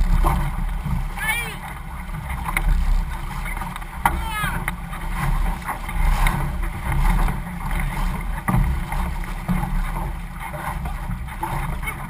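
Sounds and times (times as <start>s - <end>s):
canoe paddles splashing: 0.0s - 12.0s
water rushing along hulls: 0.0s - 12.0s
wind rumble on microphone: 0.0s - 12.0s.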